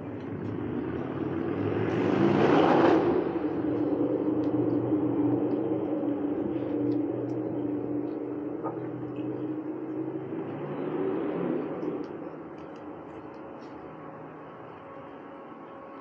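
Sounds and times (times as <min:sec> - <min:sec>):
steady low engine hum: 0:00.0 - 0:16.0
car driving past: 0:00.4 - 0:14.5.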